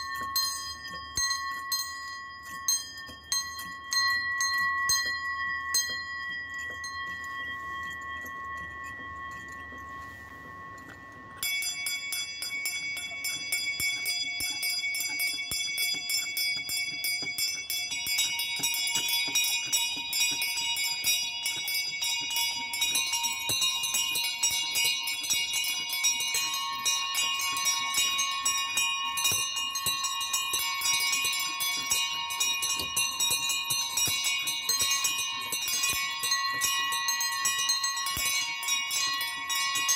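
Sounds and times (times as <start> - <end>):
small bells ringing: 0.0 - 39.9.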